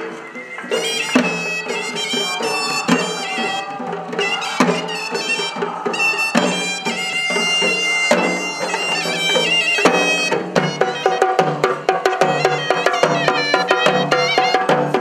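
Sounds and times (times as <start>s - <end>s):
shrill reedy wind pipe melody: 0.0s - 15.0s.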